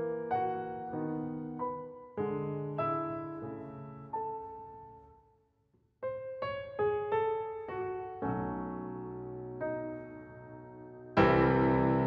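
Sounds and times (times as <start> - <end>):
slow piano music: 0.0 - 5.4, 6.0 - 12.0.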